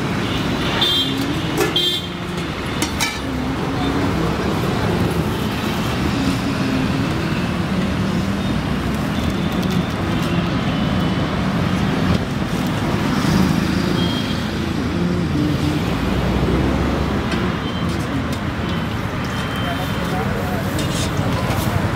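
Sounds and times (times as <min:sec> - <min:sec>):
roadside traffic: 0:00.0 - 0:21.9.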